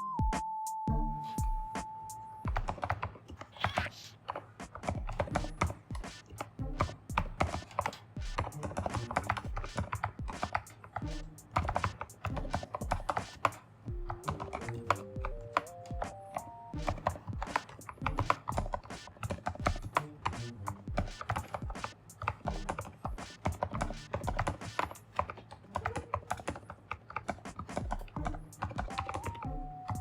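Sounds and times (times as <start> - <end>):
background music: 0.0 - 4.0, 4.6 - 25.3, 27.6 - 30.0.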